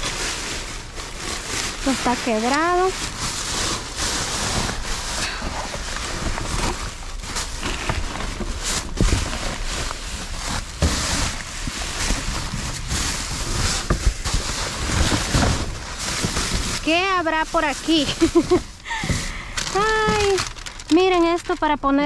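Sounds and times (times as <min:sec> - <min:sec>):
bags and cardboard rustling: 0:00.0 - 0:22.0.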